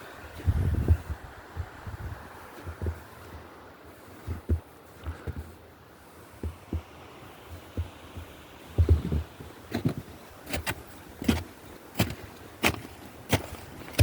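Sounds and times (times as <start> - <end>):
footsteps on a trail: 0.3 - 14.0.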